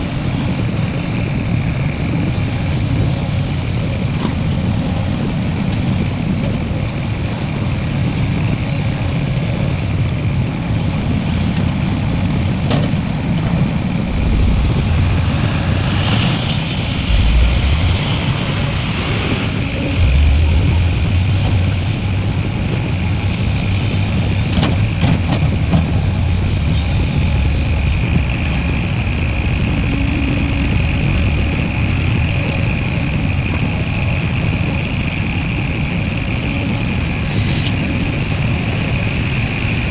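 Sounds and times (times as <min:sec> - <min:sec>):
heavy diesel engines rumbling: 0:00.0 - 0:39.9.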